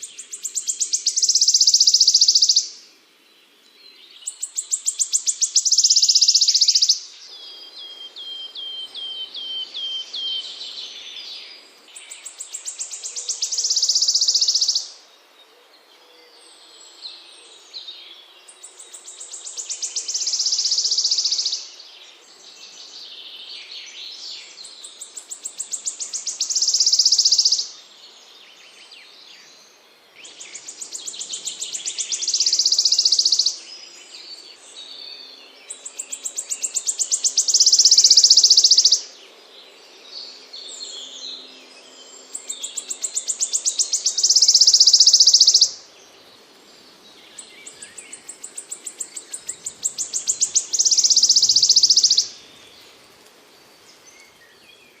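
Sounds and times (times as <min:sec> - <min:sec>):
songbird trilling song: 0:00.0 - 0:55.0.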